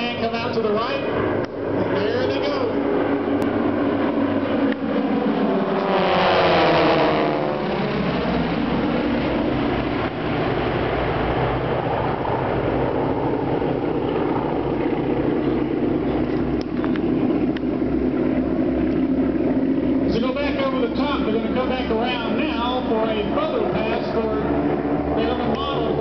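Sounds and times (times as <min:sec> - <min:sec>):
aircraft flying past: 0:00.0 - 0:26.0.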